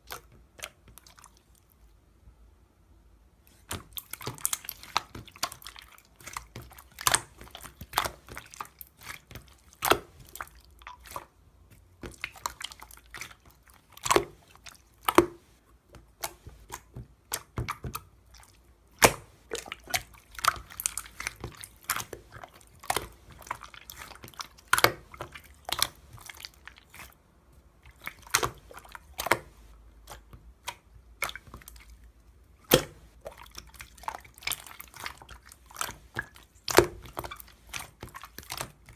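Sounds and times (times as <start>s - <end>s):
slime squished by hand: 3.4s - 38.9s.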